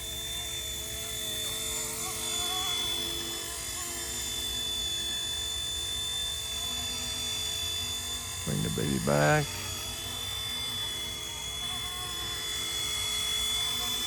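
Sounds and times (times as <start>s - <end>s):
rc helicopter whine: 0.0s - 14.0s.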